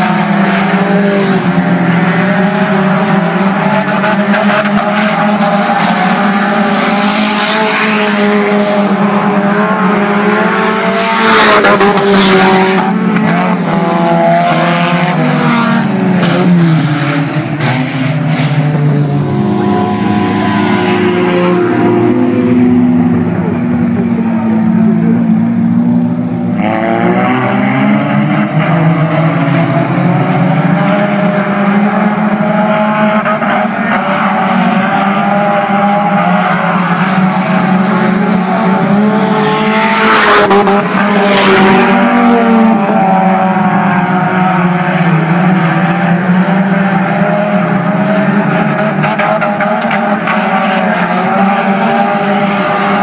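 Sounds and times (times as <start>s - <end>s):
car accelerating: 0.0s - 53.0s
race car engines at high revs: 0.0s - 53.0s.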